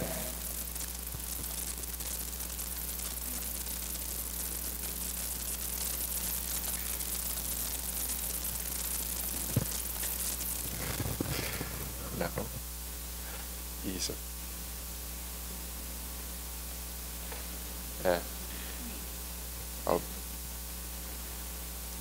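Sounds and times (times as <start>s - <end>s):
electrical hiss: 0.0s - 22.0s
low mains hum: 0.0s - 22.0s.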